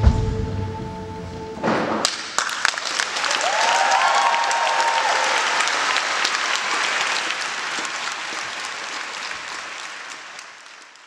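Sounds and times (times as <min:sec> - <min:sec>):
audience applause: 0:02.0 - 0:11.0.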